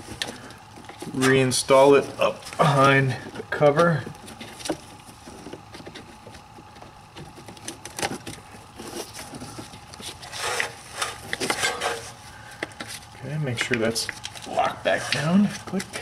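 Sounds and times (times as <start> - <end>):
plastic rustle: 0.0 - 16.0.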